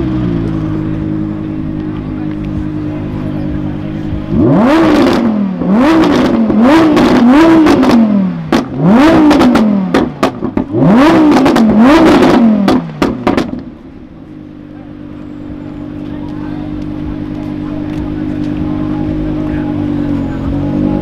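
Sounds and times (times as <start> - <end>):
car engine revving hard: 0.0 - 13.9, 14.9 - 21.0
car engine idling: 0.0 - 21.0
exhaust crackles and pops: 0.3 - 15.0, 15.8 - 20.1.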